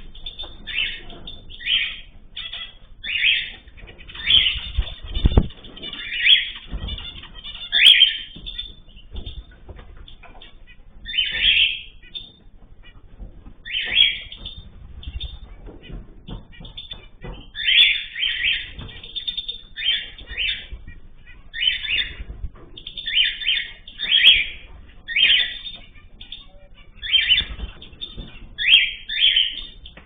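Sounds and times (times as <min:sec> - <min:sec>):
birds chirping: 0:00.0 - 0:30.0
wings fluttering: 0:03.5 - 0:30.0.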